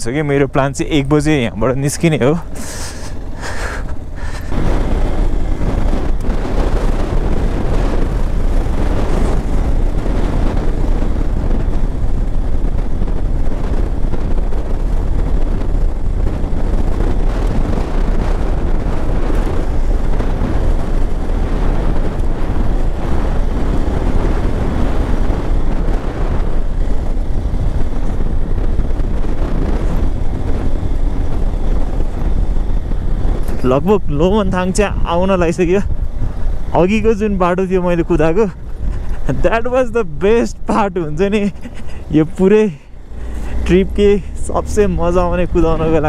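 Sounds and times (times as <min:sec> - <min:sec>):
motorcycle engine running: 0:00.0 - 0:46.0
wind rushing on microphone: 0:00.0 - 0:46.0.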